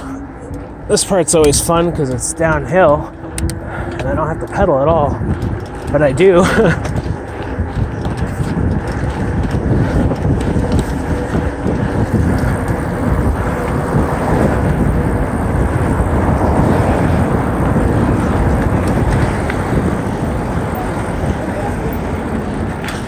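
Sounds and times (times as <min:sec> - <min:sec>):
bike tyres rumbling on dirt: 0:00.0 - 0:23.0
wind rushing over microphone: 0:00.0 - 0:23.0.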